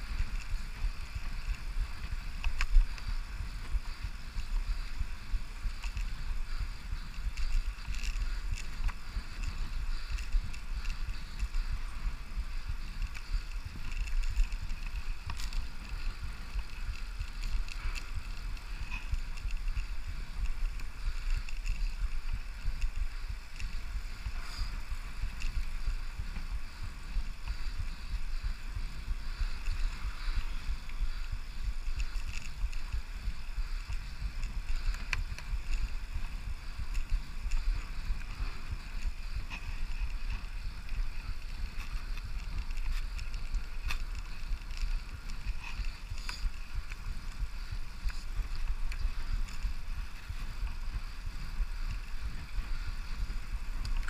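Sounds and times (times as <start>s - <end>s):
bicycle tyres rolling on asphalt: 0.0s - 54.0s
wind noise on microphone: 0.0s - 54.0s
faint clicks: 0.1s - 54.0s.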